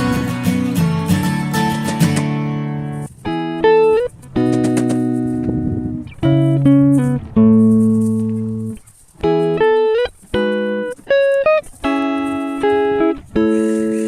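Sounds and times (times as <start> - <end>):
plucked guitar-like notes: 0.0 - 14.0.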